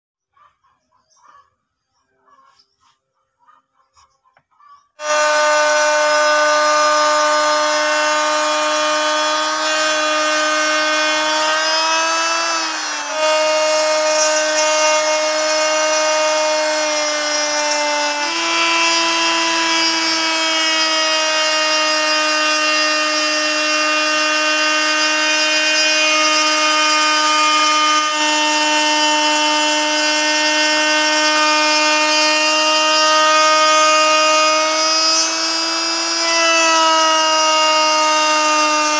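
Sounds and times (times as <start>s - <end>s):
router cutting wood: 5.0s - 38.9s.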